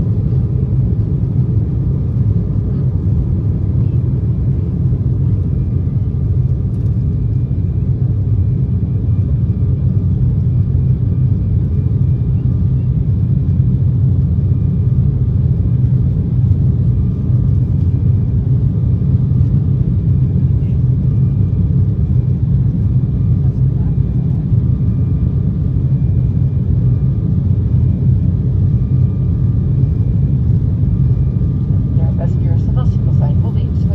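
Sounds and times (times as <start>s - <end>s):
airliner cabin rumble: 0.0s - 33.9s
jet engines whining faintly: 0.0s - 33.9s.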